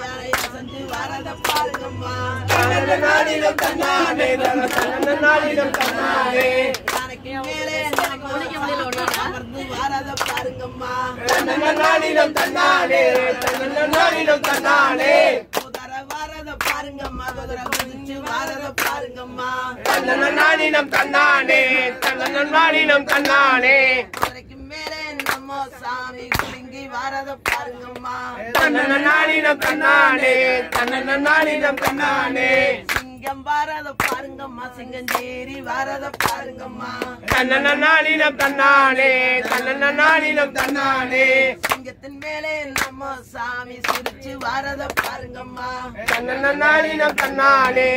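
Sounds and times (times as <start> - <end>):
hand claps in steady beat: 0.0 - 10.6, 11.2 - 47.9
group singing folk song: 0.0 - 47.9.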